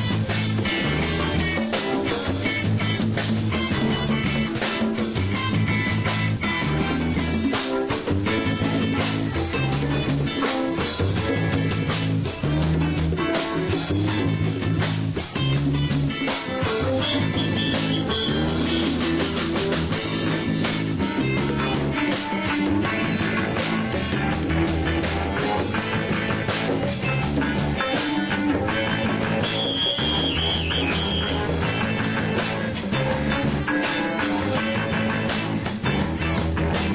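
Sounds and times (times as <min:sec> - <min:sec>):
rock music: 0:00.0 - 0:36.9.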